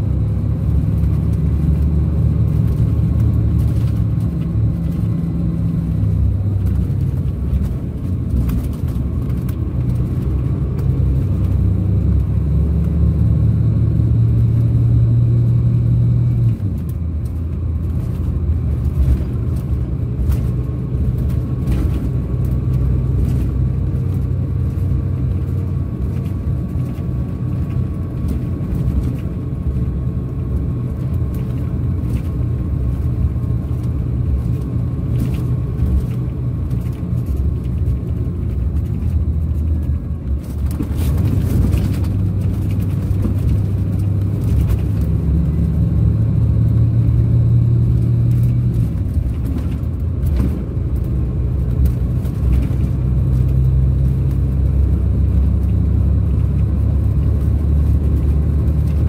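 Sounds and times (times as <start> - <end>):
coach diesel engine droning: 0.0 - 59.0.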